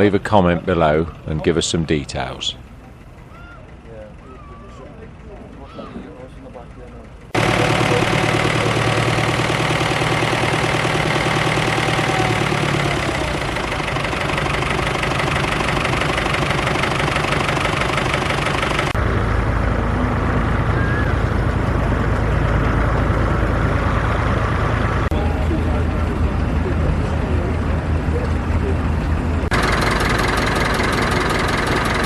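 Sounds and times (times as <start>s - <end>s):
deep heavy engine: 0.0s - 32.0s
tractor engines running: 0.0s - 32.0s.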